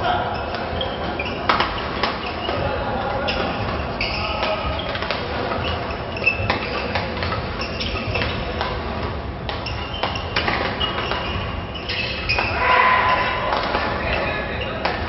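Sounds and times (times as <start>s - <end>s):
rackets hitting shuttlecock: 0.4s - 15.0s.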